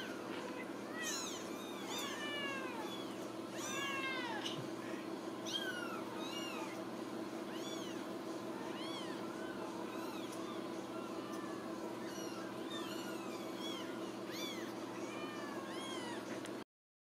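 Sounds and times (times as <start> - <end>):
kittens mewing: 0.0 - 16.4
steady low hum: 0.0 - 16.6.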